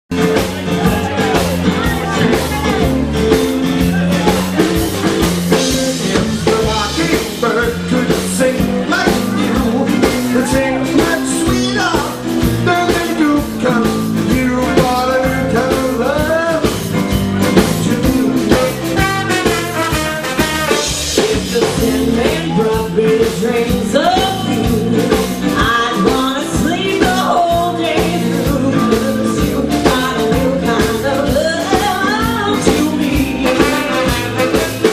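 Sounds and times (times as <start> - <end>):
live band music: 0.1 - 34.9
man and woman singing: 4.0 - 16.9, 17.5 - 20.0, 20.7 - 34.9.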